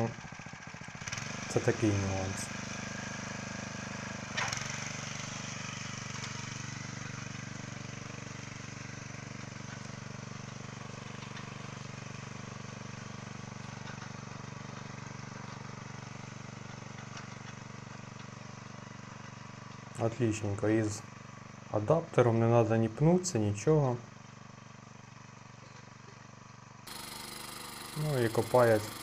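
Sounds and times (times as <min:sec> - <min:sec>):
walk-behind tractor engine running: 0:00.0 - 0:29.0.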